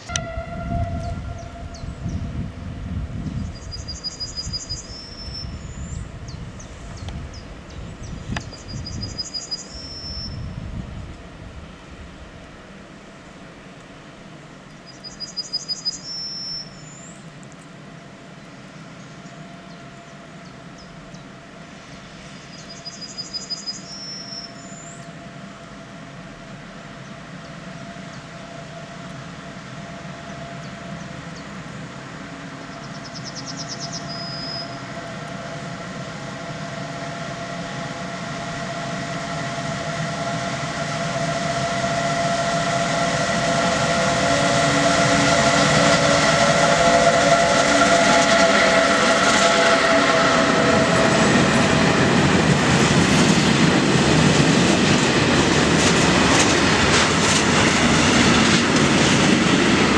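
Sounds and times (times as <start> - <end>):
freight train humming: 0.0 - 59.9.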